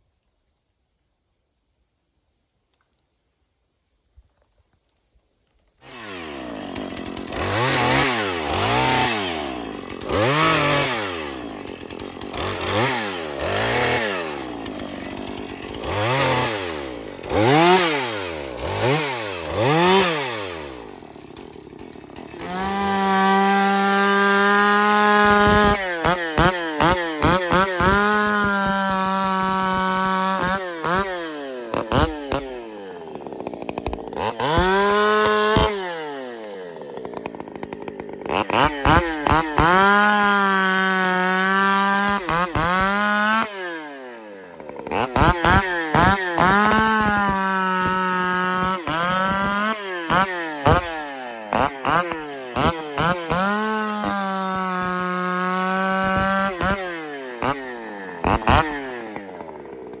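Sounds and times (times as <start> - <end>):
chainsaw revving: 5.8 - 60.0.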